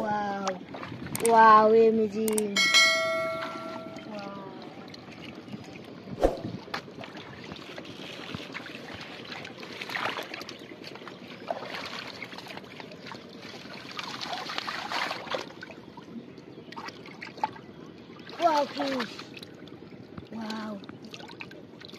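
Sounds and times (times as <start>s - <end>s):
muddy water sloshing and splashing: 0.0s - 1.9s, 3.3s - 21.9s.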